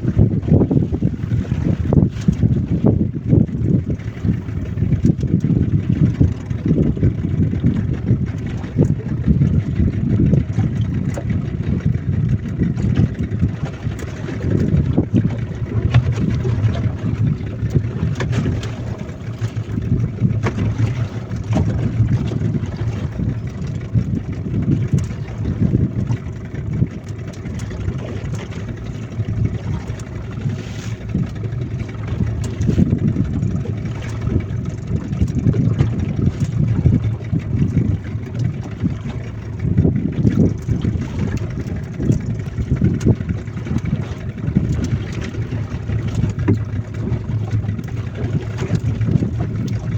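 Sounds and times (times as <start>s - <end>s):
boat motor humming: 0.0s - 49.9s
wind on microphone: 0.0s - 49.9s.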